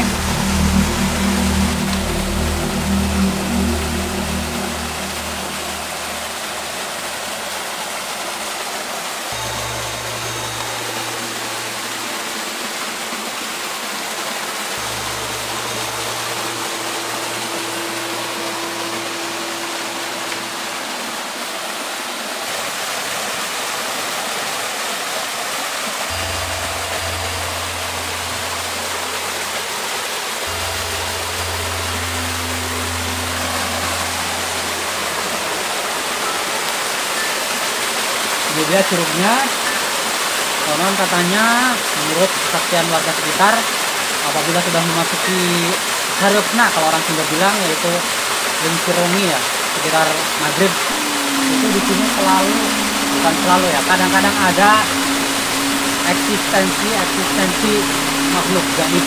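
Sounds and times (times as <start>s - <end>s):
music of low held notes: 0.0s - 24.9s, 25.5s - 59.0s
water rushing into pool: 0.0s - 59.0s.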